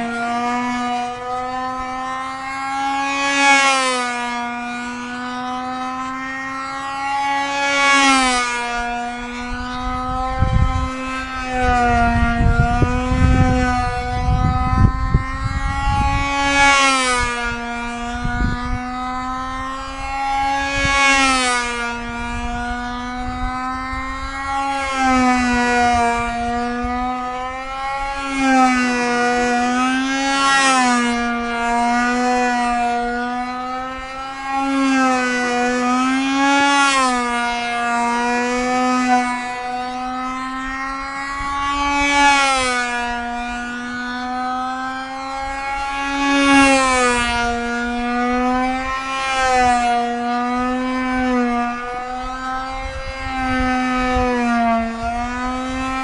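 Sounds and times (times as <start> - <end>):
model plane engine whining: 0.0 - 56.0.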